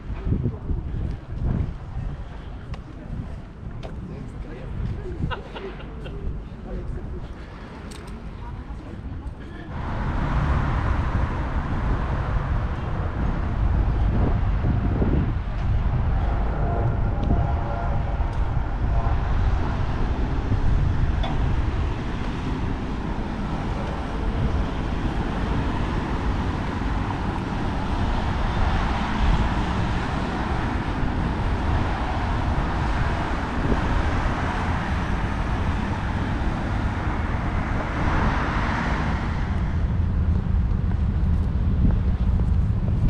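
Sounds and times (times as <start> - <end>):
street traffic: 0.0 - 43.0
wind rumble on microphone: 0.0 - 43.0.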